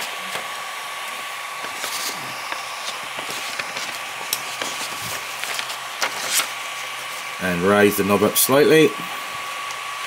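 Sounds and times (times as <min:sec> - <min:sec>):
cooling fan whirring: 0:00.0 - 0:10.0.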